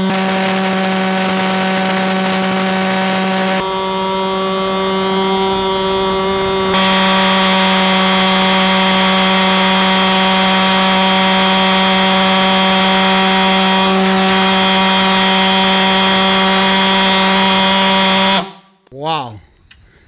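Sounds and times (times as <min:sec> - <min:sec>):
pulsejet engine buzzing drone: 0:00.0 - 0:18.6.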